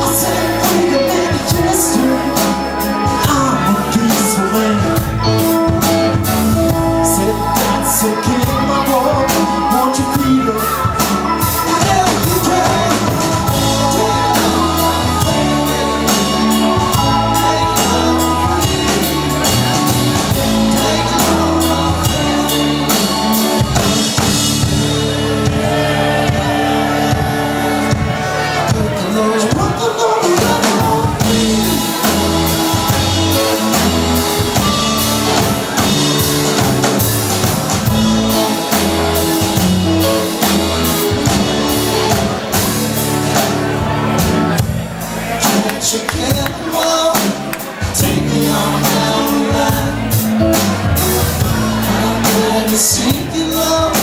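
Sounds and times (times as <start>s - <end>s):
electric guitar: 0.0s - 29.0s, 30.3s - 54.0s
organ: 0.0s - 29.4s, 30.3s - 54.0s
bass guitar: 0.0s - 54.0s
drum kit: 0.0s - 54.0s
person singing: 0.0s - 54.0s.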